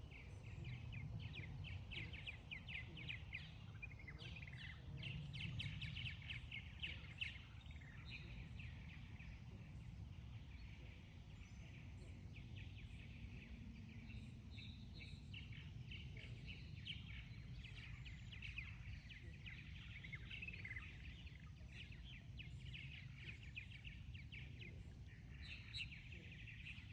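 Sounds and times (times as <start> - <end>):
low outdoor rumble: 0.0 - 26.9
small birds chirping: 0.0 - 26.9.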